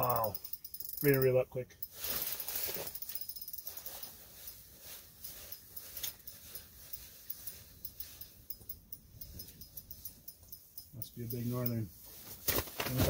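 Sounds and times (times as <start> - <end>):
fishing reel cranking ticks: 0.0 - 4.6, 5.2 - 11.7.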